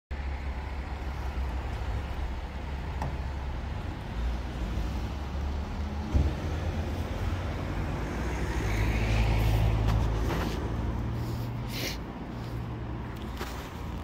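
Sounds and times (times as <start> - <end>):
street rumble: 0.1 - 14.0.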